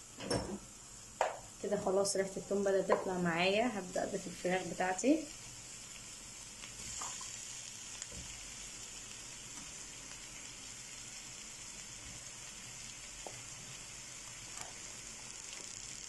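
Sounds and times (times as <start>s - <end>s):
onions frying in oil: 0.0s - 16.0s.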